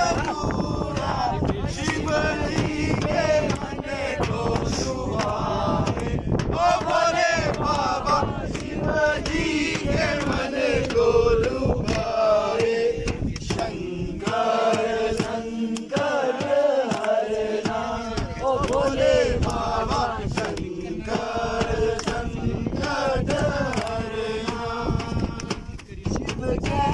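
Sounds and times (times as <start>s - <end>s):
hands clapping: 0.0s - 26.9s
men singing a chant: 0.0s - 26.9s.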